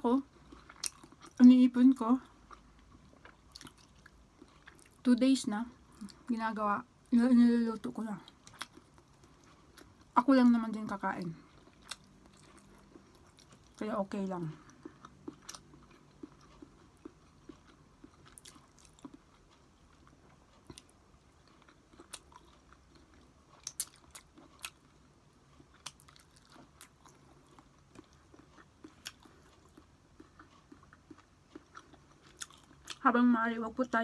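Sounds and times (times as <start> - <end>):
person chewing: 0.3 - 1.5, 2.2 - 5.0, 8.2 - 33.0.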